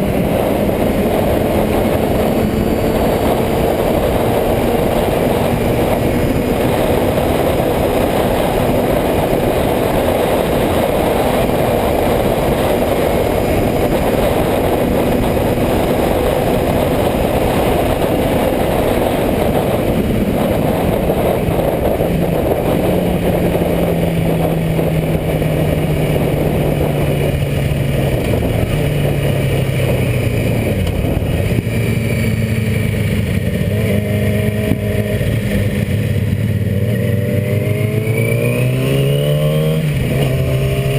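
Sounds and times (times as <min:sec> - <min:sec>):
loud rushing noise: 0:00.0 - 0:40.9
motorcycle engine running: 0:00.0 - 0:40.9.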